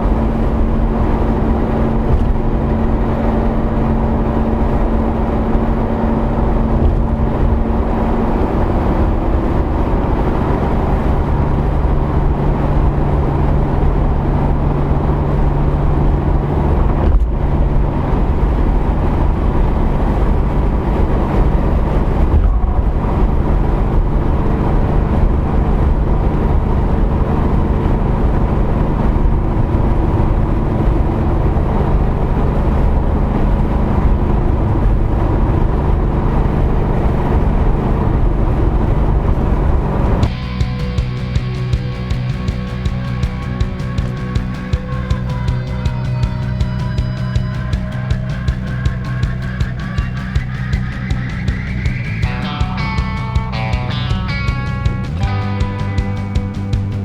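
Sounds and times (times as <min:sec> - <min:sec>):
car engines running: 0:00.0 - 0:57.0.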